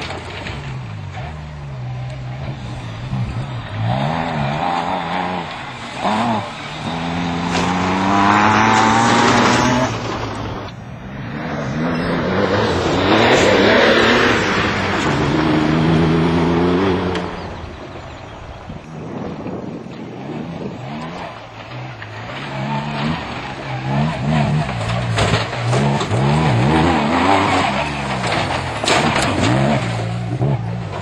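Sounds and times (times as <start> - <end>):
racing car engine revving: 0.0 - 31.0.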